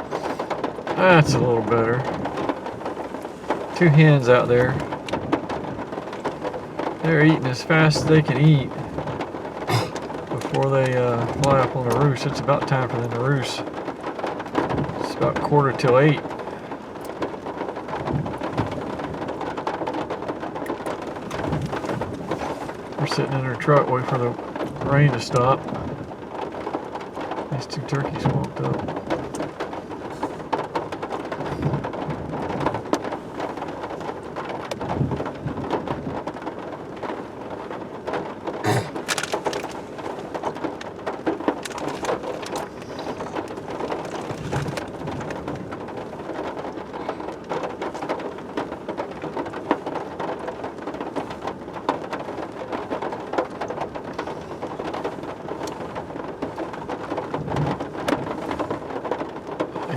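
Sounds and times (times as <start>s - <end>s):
rain on a truck: 0.0s - 59.9s.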